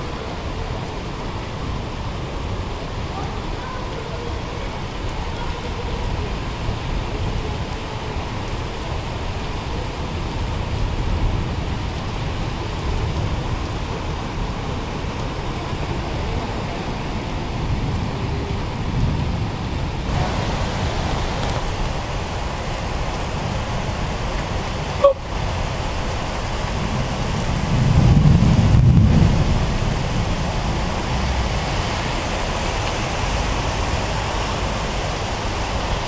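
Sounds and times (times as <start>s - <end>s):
car splashing through floodwater: 0.0s - 36.0s
heavy rain falling: 0.0s - 36.0s.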